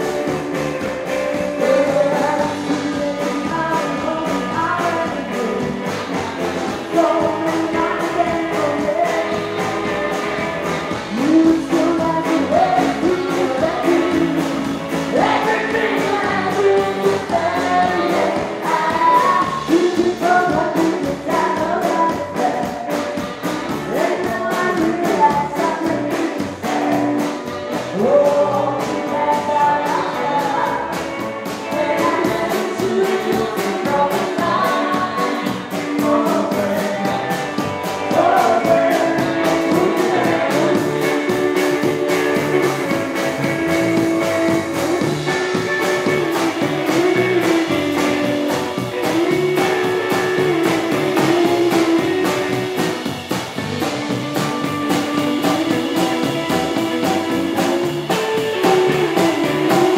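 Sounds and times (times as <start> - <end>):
person singing: 0.0 - 59.9
rockabilly band playing: 0.0 - 59.9.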